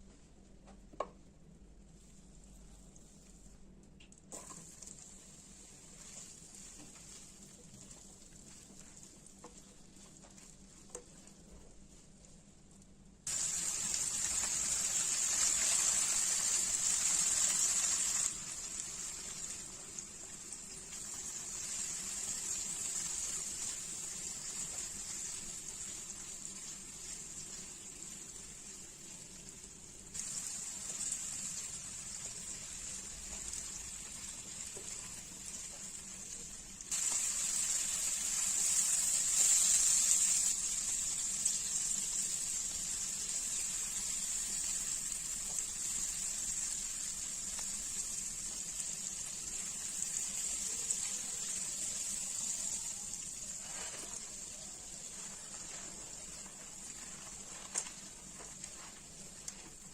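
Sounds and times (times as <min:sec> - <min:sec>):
potatoes frying in hot oil: 0:04.3 - 0:11.6, 0:13.3 - 0:59.9.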